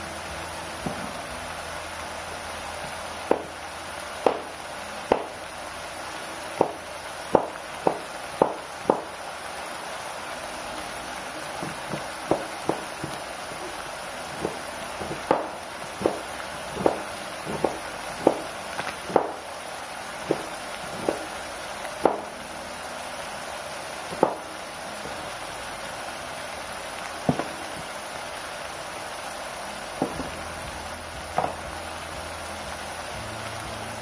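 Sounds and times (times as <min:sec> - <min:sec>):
food simmering in wok: 0:00.0 - 0:34.0.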